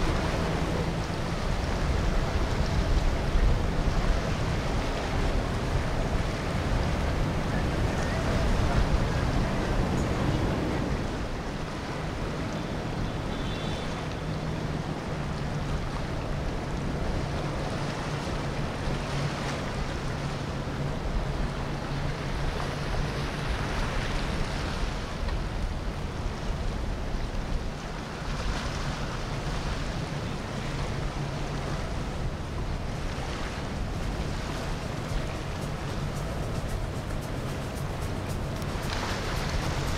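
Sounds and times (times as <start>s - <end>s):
boat engine humming: 0.0s - 39.9s
water wash: 0.0s - 39.9s
wind on microphone: 0.0s - 39.9s.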